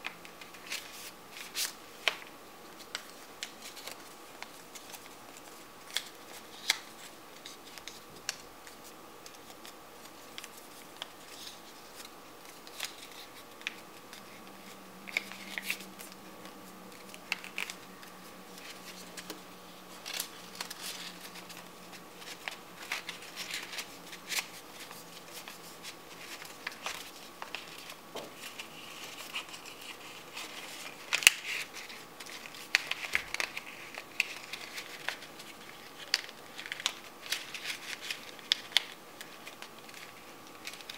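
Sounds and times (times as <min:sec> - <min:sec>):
paper crackling clicks: 0:00.0 - 0:40.9
paper rustling and crinkling: 0:00.0 - 0:40.9.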